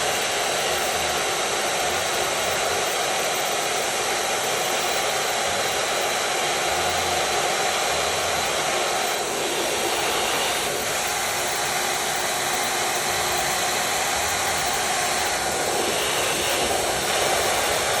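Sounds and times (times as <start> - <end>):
cnc router milling wood: 0.0 - 18.0.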